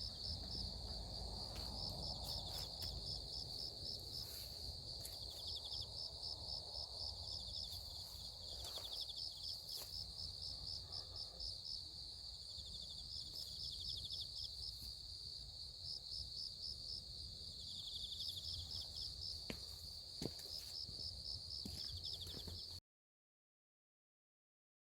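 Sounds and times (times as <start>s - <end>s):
crickets chirping: 0.0s - 22.8s
lower insect trill: 0.0s - 22.8s.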